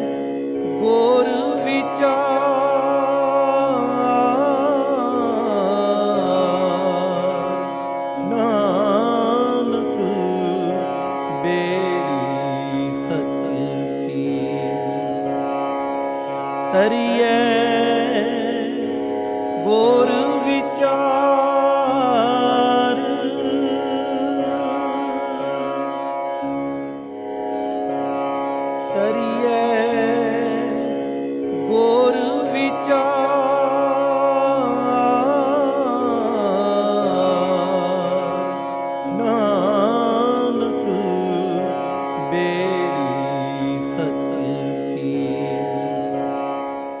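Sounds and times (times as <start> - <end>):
harmonium chords: 0.0 - 47.0
person singing ornamented phrases: 0.7 - 15.2, 16.7 - 26.1, 28.9 - 46.2.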